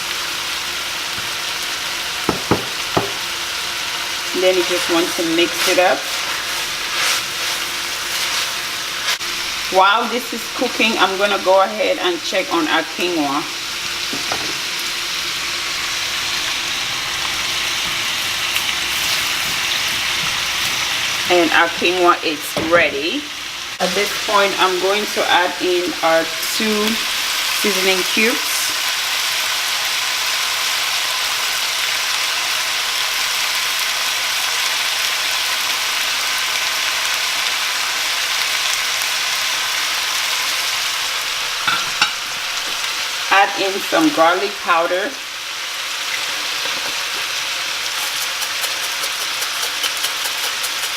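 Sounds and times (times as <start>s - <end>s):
vegetables sizzling in a frying pan: 0.0s - 50.9s.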